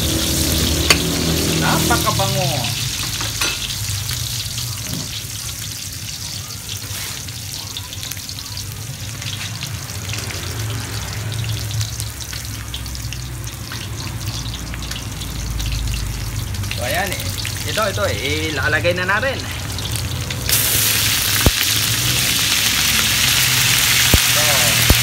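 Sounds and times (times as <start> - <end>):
garlic and onion sizzling in oil: 0.0 - 25.0.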